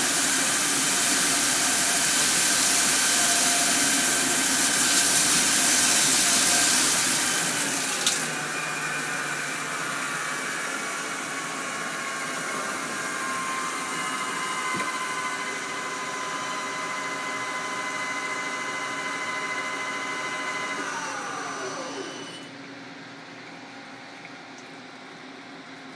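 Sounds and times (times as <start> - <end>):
lathe spindle whine: 0.0 - 22.5.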